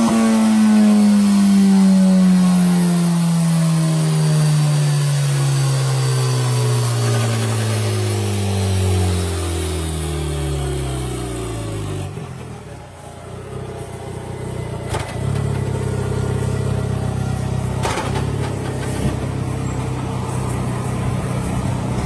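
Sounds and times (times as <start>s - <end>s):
race engine revving and idling: 0.0s - 22.0s.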